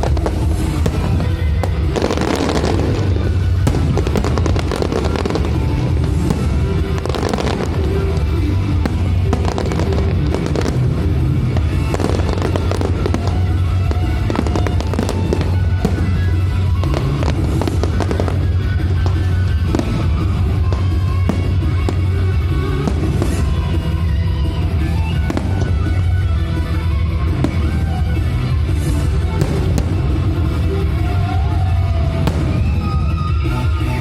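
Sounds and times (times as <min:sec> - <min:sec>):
fireworks bangs and crackles: 0:00.0 - 0:34.0
loud music with heavy bass: 0:00.0 - 0:34.0.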